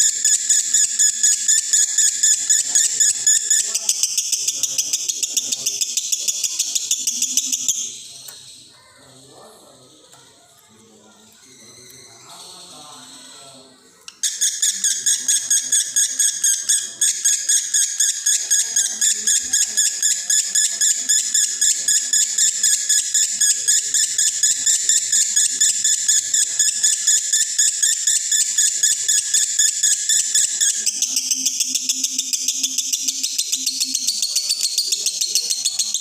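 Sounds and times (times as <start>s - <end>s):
lovebird rapid chatter: 0.0s - 9.8s, 14.1s - 36.0s.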